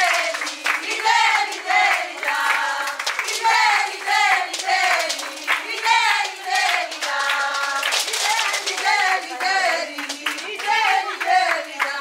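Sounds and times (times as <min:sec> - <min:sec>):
rhythmic hand clapping: 0:00.0 - 0:12.0
women singing in high voices: 0:00.0 - 0:12.0.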